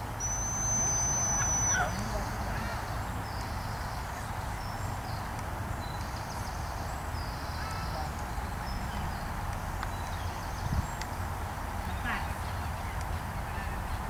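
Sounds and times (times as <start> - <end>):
high chirping trills: 0.0 - 13.1
wind rumble on microphone: 0.0 - 14.0.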